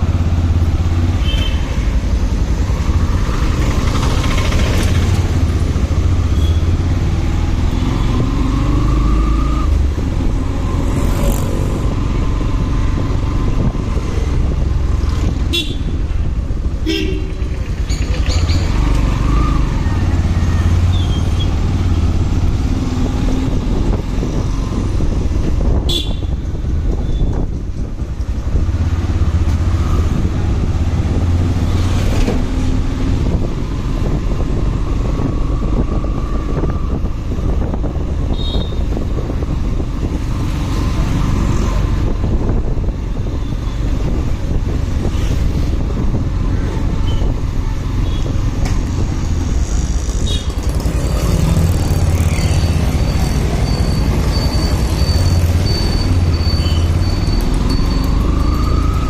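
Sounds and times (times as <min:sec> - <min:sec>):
traffic: 0:00.0 - 0:59.0
wind and road noise: 0:00.0 - 0:59.0.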